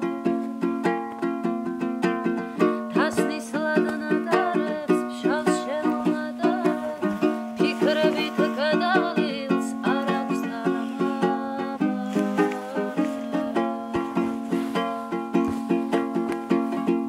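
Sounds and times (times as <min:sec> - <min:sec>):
strummed string instrument: 0:00.0 - 0:17.0
woman singing: 0:02.3 - 0:17.0.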